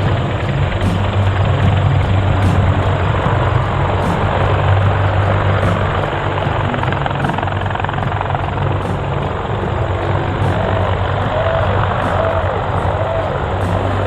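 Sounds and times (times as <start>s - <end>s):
helicopter engines and rotor: 0.0s - 14.0s.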